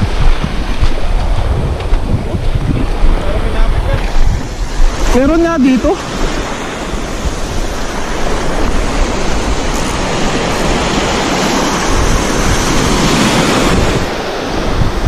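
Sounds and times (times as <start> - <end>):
waves washing up beach: 0.0 - 15.0
wind on microphone: 0.0 - 15.0.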